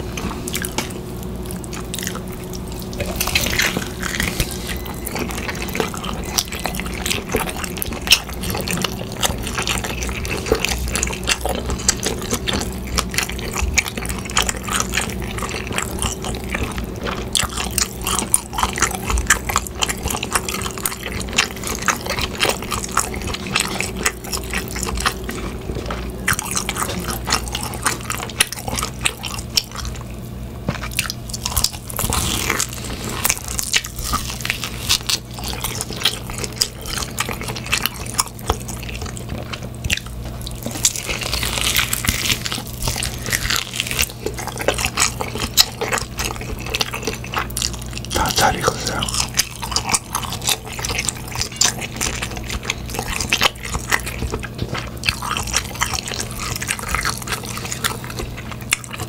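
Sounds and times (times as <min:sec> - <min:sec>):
man chewing meat: 0:00.0 - 0:59.0.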